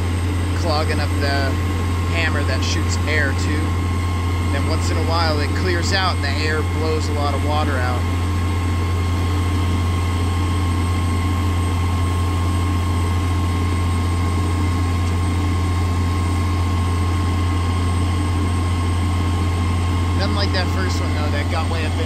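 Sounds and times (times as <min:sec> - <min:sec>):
drilling rig droning: 0:00.0 - 0:22.0.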